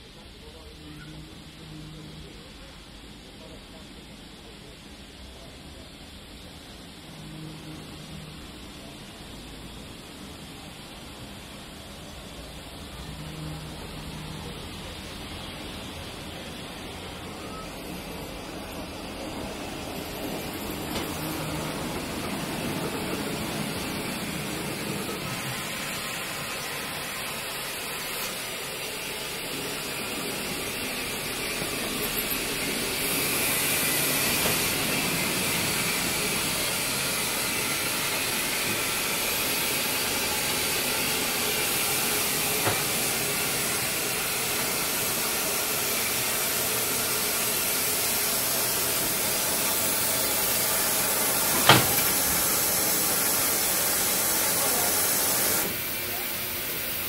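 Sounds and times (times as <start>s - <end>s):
steam hissing from locomotive: 0.0s - 57.0s.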